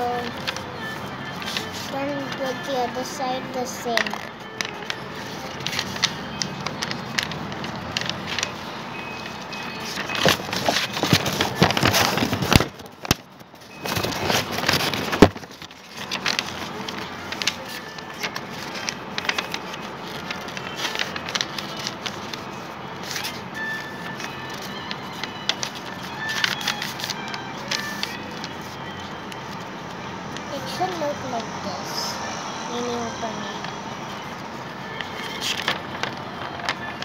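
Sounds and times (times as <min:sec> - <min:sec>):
paper rustling and crackling: 0:00.0 - 0:31.4, 0:32.8 - 0:37.0.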